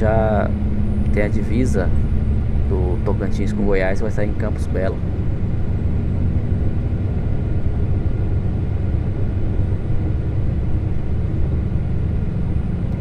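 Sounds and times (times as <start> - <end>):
truck diesel engine rumble: 0.0 - 13.0
tyres on road: 0.0 - 13.0.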